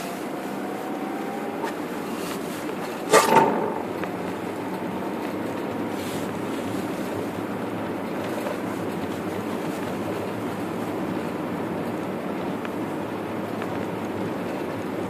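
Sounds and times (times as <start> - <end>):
car driving on snow: 0.0 - 15.0.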